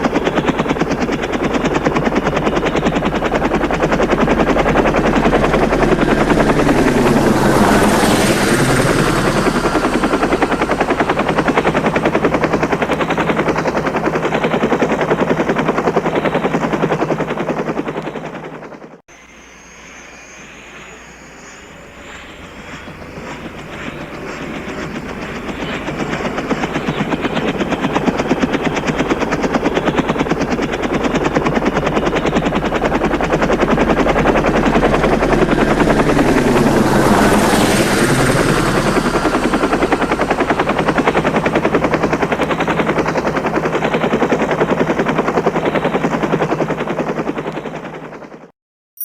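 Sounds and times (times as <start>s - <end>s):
helicopter rotor chopping: 0.0s - 19.0s, 20.3s - 48.5s.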